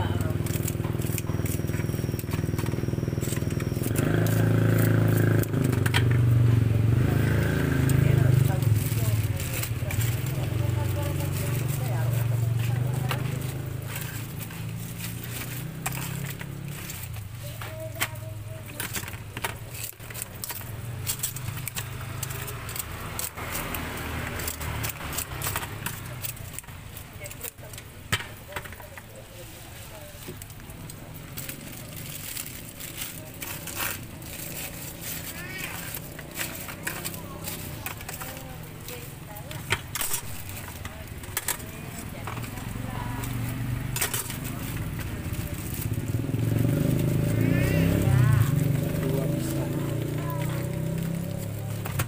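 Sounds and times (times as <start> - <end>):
engine hum: 0.0 - 52.0.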